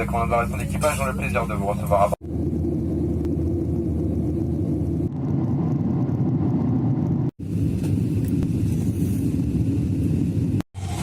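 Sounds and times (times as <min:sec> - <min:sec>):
road vehicle rumble from inside: 0:00.0 - 0:11.0.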